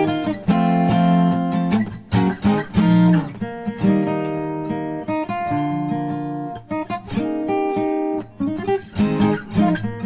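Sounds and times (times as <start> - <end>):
acoustic guitar plucking: 0.0 - 10.0.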